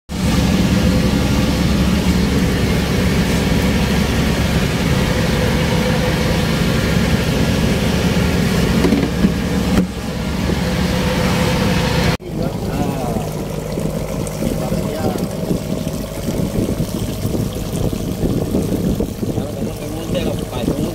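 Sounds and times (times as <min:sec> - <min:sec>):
boat engine humming: 0:00.1 - 0:20.9.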